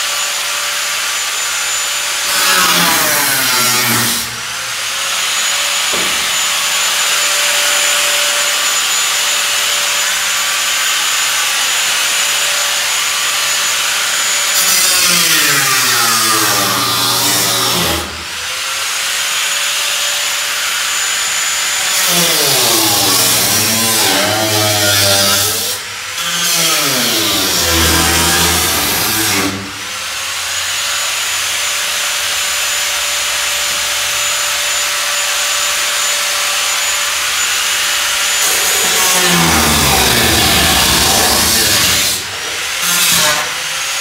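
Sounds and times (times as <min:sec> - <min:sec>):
angle grinder cutting metal: 0:00.0 - 0:44.0.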